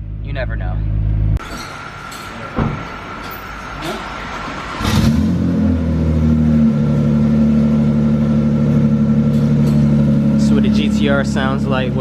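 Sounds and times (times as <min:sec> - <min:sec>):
car engine starting and idling: 0:01.0 - 0:12.0.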